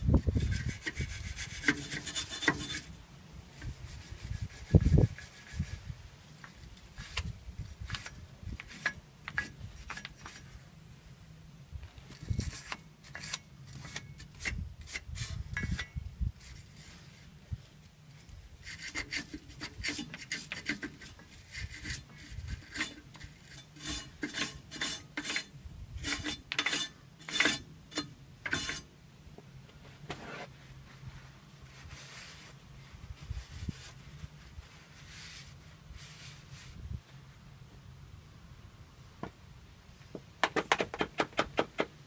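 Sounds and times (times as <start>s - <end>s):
hand scraping on metal: 0.0s - 10.7s, 12.1s - 17.4s, 18.1s - 28.9s, 29.7s - 36.9s.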